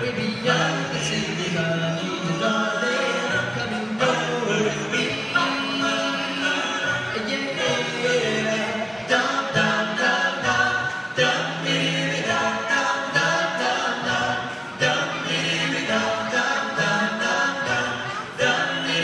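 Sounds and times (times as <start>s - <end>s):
a cappella group singing: 0.0s - 19.0s.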